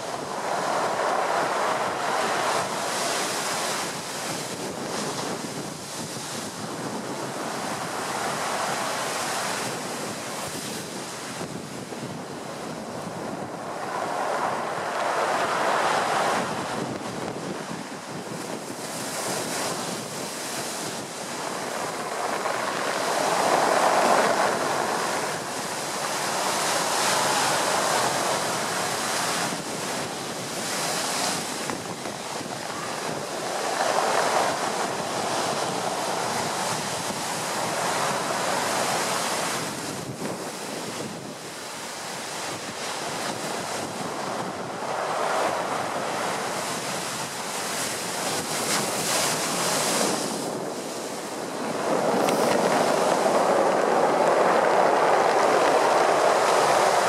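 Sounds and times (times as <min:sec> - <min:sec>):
heavy surf crashing on sea wall: 0:00.0 - 0:57.0
wind blowing across microphone: 0:00.0 - 0:57.0.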